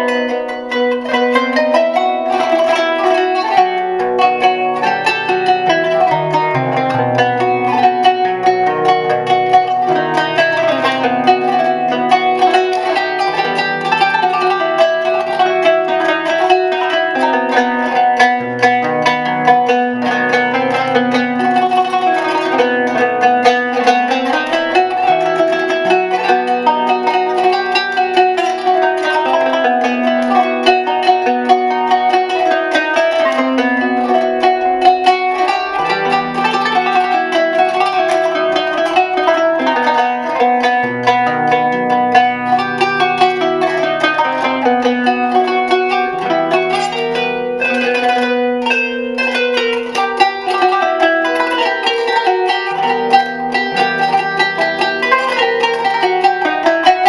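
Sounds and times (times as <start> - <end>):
plucked string melody: 0.0 - 57.0.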